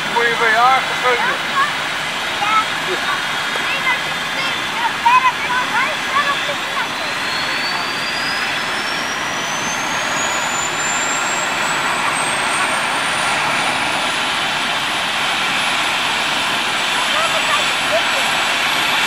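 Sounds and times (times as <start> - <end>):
engine and rotor rush: 0.0 - 19.0
helicopter turbine whine rising: 0.0 - 19.0.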